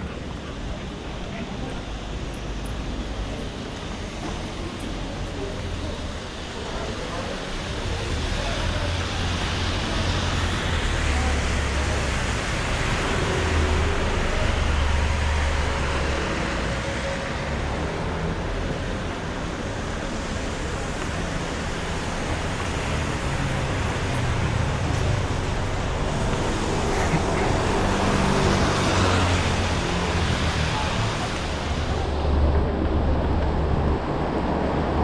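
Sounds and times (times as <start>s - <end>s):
city street traffic: 0.0s - 35.0s
vehicle engine rumble passing: 4.9s - 35.0s.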